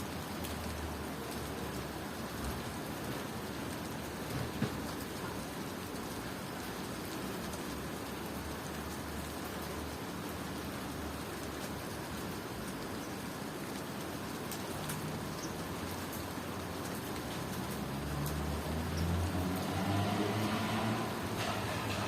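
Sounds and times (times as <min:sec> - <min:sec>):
steady rain patter: 0:00.0 - 0:22.0.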